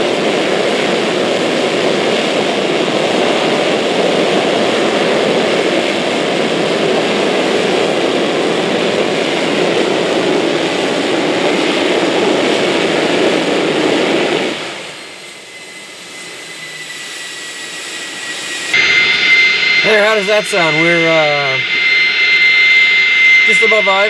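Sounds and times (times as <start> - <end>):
jet engine running: 0.0 - 24.0.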